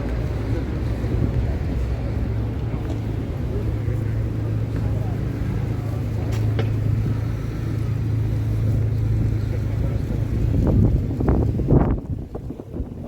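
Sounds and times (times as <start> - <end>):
low traffic rumble: 0.0 - 13.0
wind buffeting microphone: 0.0 - 13.0.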